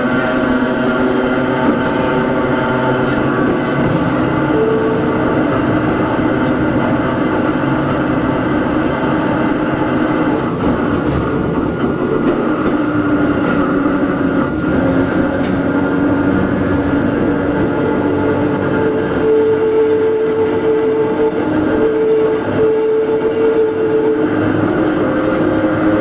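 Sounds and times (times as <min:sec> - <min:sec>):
traction motor whine: 0:00.0 - 0:26.0
wheel and rail noise: 0:00.0 - 0:26.0.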